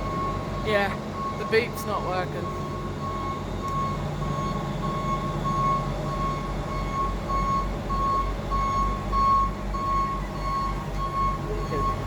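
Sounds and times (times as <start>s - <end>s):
diesel engine idling: 0.0s - 12.0s
reversing alarm beeping: 0.0s - 12.0s.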